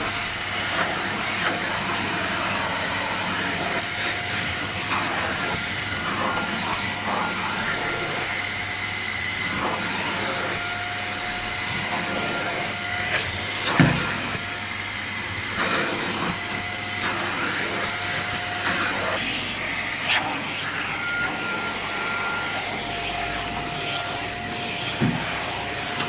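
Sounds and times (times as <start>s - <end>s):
vacuum cleaner on doormat: 0.0s - 26.0s.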